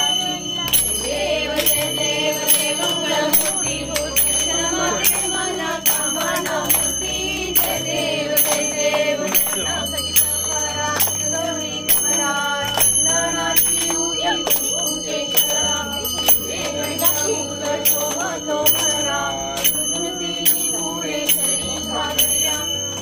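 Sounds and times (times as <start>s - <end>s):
background music with steady beat: 0.0s - 23.0s.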